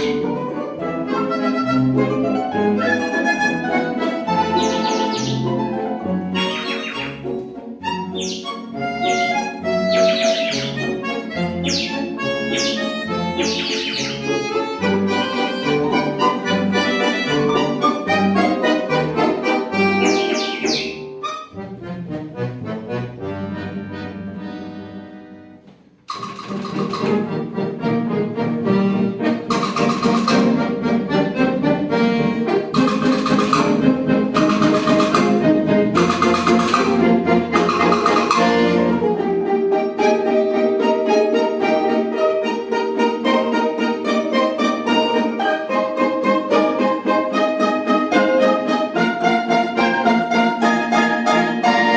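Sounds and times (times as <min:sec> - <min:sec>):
folk instrument orchestra: 0:00.0 - 0:51.9.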